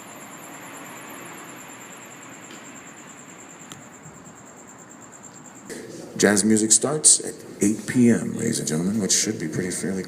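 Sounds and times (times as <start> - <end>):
high-pitched whine: 0.0 - 10.0.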